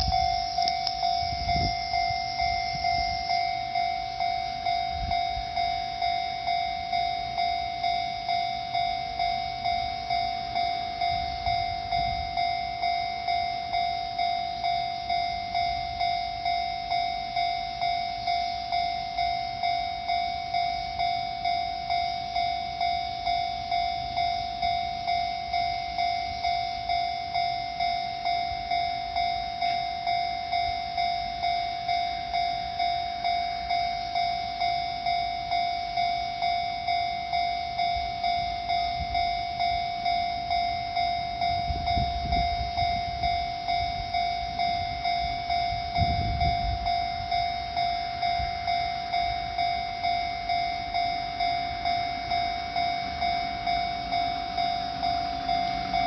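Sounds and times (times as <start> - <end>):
level crossing bell ringing: 0.0 - 56.0.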